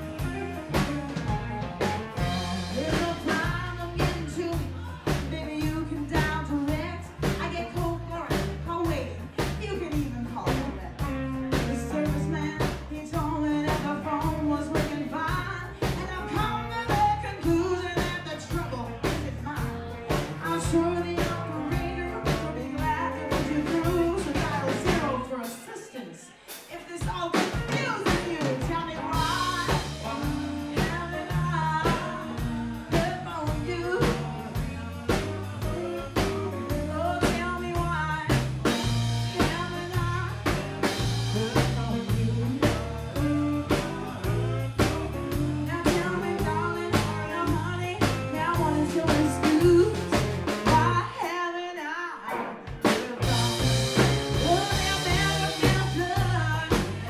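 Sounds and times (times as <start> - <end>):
acoustic and electric guitars: 0.0 - 25.3, 27.5 - 51.4, 52.1 - 57.0
bass guitar: 0.0 - 25.5, 27.1 - 51.2, 52.2 - 57.0
drum kit beat: 0.0 - 25.7, 26.5 - 51.4, 52.3 - 57.0
woman singing into microphone: 2.2 - 53.6, 54.3 - 57.0.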